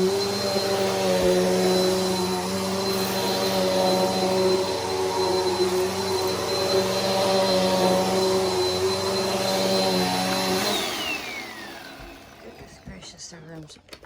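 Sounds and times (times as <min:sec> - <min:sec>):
vacuum cleaner motor whine: 0:00.0 - 0:13.1.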